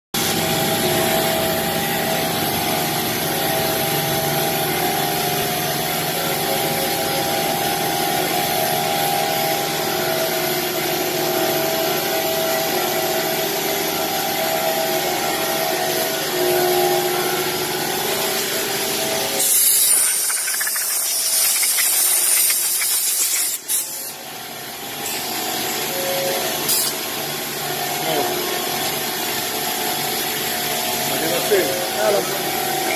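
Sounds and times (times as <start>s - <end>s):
industrial machinery running: 0.2s - 32.9s.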